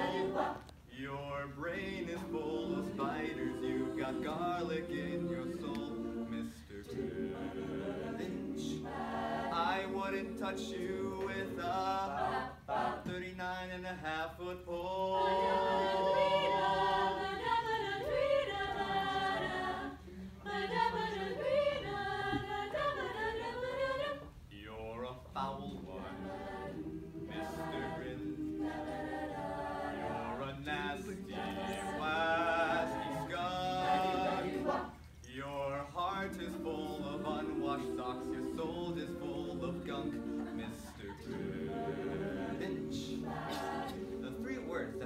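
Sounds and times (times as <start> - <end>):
a cappella group singing in harmony: 0.0 - 45.0.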